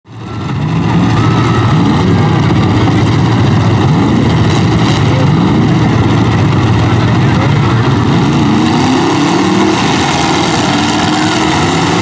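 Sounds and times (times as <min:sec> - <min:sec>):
car engines idling and revving: 0:00.1 - 0:12.0.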